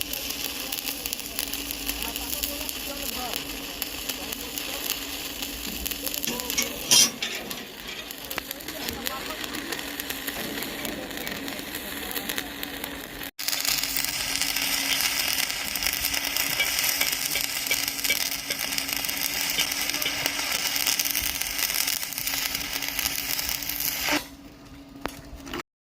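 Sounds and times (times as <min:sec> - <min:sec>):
welding arc crackling and sizzling: 0:00.0 - 0:25.6.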